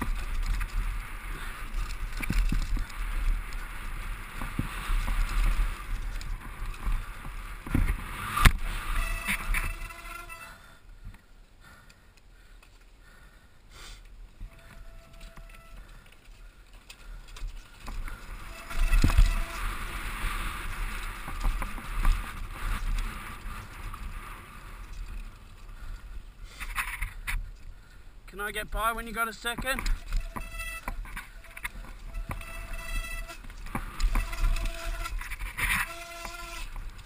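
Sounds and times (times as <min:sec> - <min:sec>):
bike tyres rolling on dirt: 0:00.0 - 0:37.0.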